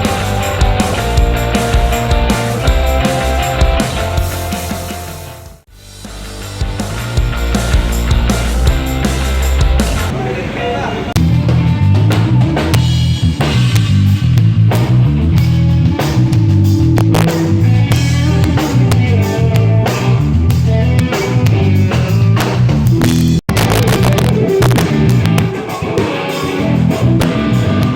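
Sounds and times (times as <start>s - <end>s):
low bass line: 0.0s - 10.1s, 11.2s - 25.6s
rock drum kit: 0.0s - 10.2s, 11.2s - 27.9s.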